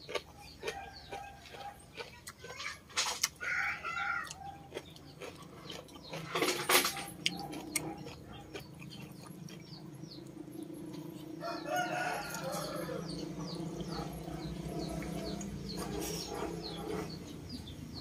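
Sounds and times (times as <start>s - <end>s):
chewing and lip smacks: 0.0s - 17.2s
chickens clucking: 0.0s - 18.0s.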